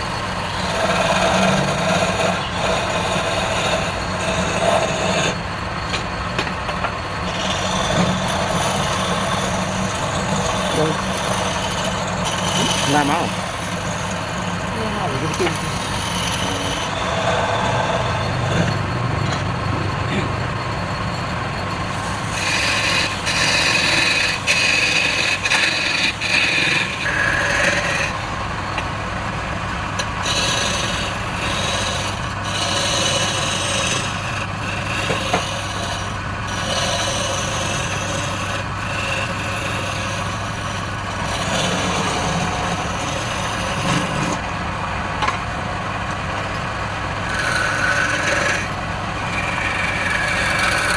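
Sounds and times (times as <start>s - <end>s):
rasping of spinning wood: 0.0s - 19.4s, 21.8s - 45.5s, 46.1s - 50.9s
wood lathe running: 0.0s - 19.6s, 20.5s - 50.9s.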